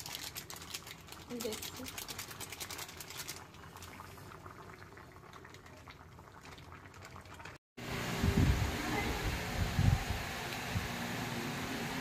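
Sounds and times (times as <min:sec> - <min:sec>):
stew boiling in a pan: 0:00.0 - 0:12.0.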